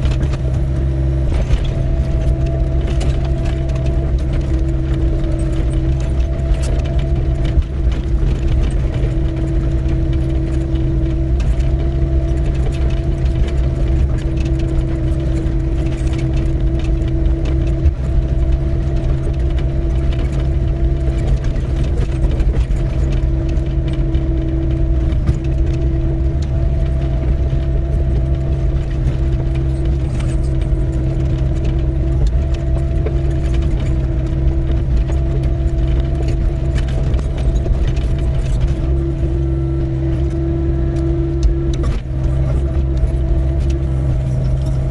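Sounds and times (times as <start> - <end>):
excavator diesel engine running: 0.0 - 44.9
hydraulic whine: 0.0 - 44.9
light clicks and rattles: 0.0 - 44.9.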